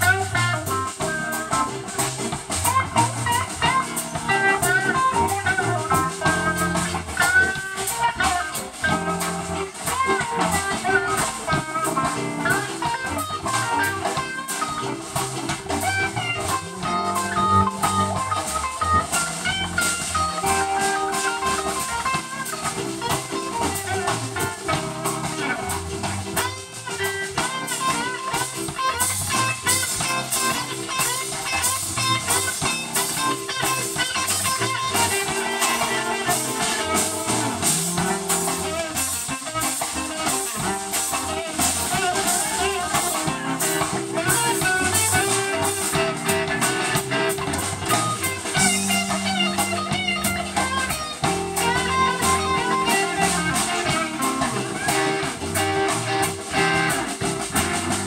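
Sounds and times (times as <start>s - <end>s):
drum kit: 0.0s - 58.0s
electric guitar lead: 0.0s - 58.0s
keyboard: 0.0s - 58.0s.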